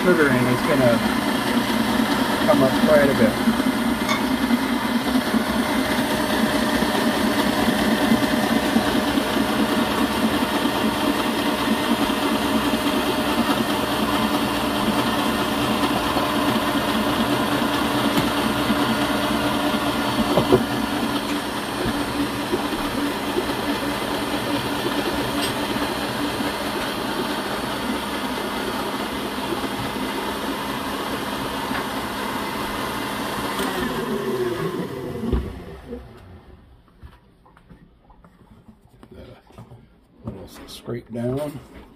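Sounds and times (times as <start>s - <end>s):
stand mixer whisking: 0.0s - 36.6s.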